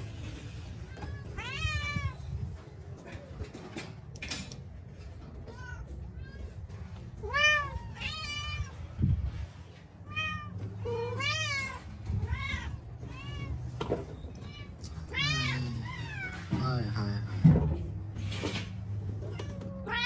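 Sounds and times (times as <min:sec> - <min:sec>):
cats meowing: 0:00.0 - 0:03.5, 0:05.2 - 0:16.7, 0:18.9 - 0:20.0.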